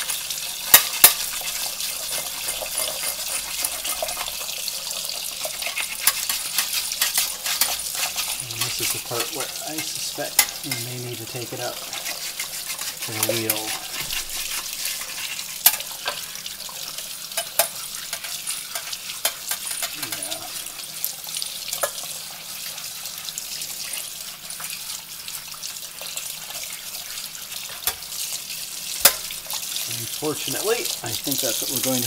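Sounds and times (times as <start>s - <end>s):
tap water running into sink: 0.0s - 32.0s.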